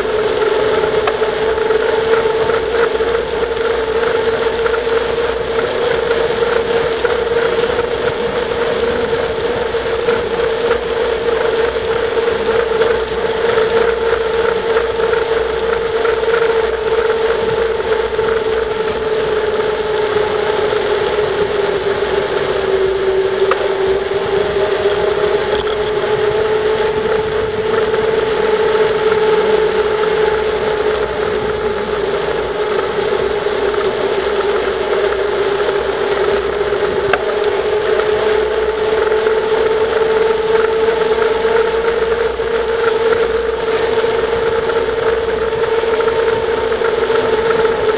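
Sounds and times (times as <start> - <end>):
whining hum: 0.0 - 47.9
wind noise: 0.0 - 47.9.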